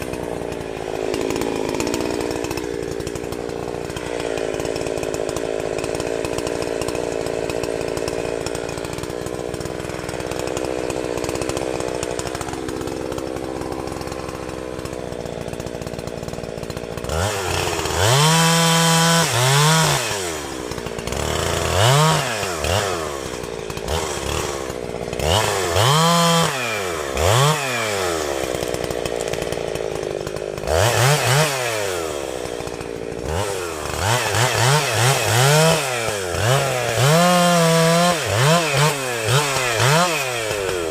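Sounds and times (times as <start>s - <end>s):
two-stroke chainsaw revving: 0.0s - 40.9s.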